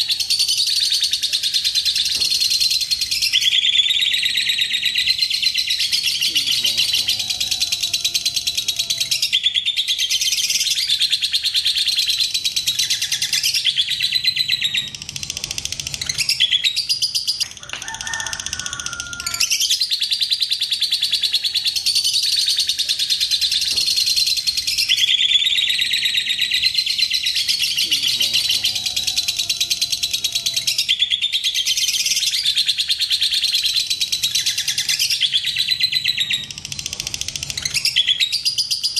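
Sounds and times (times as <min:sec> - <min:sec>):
lovebird trilling chatter: 0:00.0 - 0:38.9.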